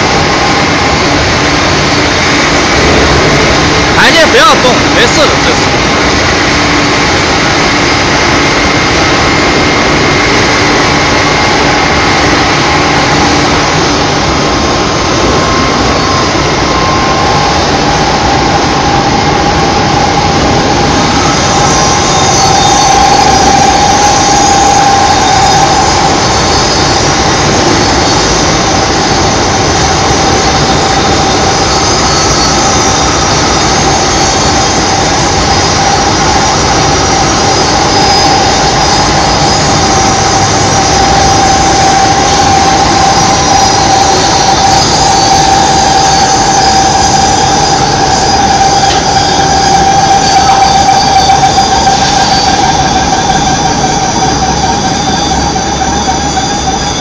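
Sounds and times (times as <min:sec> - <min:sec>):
loud steady machine noise: 0:00.0 - 0:57.0
machine whining tones: 0:00.0 - 0:57.0.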